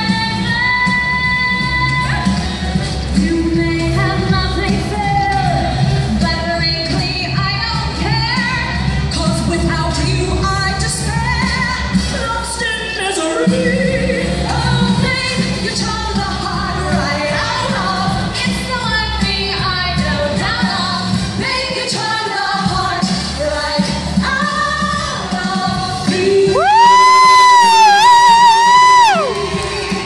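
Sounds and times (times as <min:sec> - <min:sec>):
band playing with bass line: 0:00.0 - 0:30.0.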